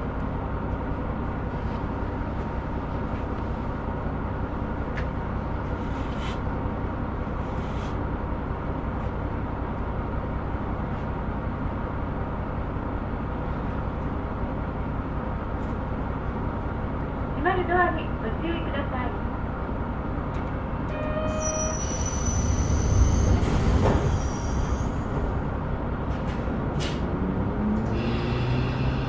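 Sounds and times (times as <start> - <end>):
diesel engine drone: 0.0 - 21.6, 22.7 - 29.0
train wheels rumbling on rails: 0.0 - 29.0.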